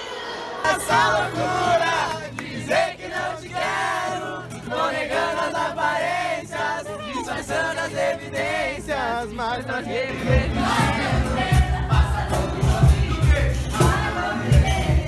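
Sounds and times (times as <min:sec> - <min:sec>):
group singing together: 0:00.0 - 0:15.0
strummed acoustic guitar: 0:00.7 - 0:15.0.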